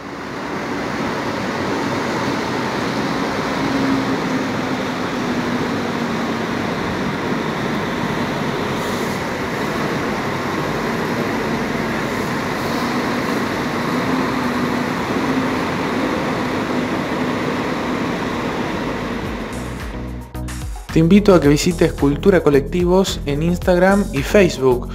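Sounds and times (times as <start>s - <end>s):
continuous wash of noise: 0.0s - 20.1s
bus engine humming: 0.0s - 20.4s.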